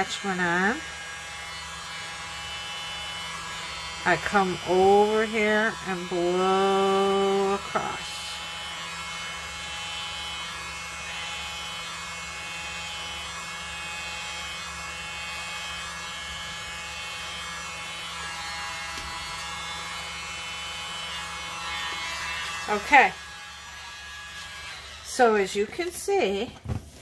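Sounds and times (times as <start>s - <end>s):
leaf blower running: 0.0s - 27.0s.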